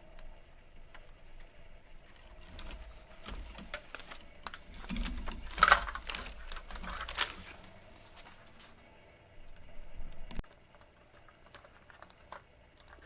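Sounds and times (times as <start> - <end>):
small clicks and rattles: 0.9 - 8.8, 9.5 - 13.0.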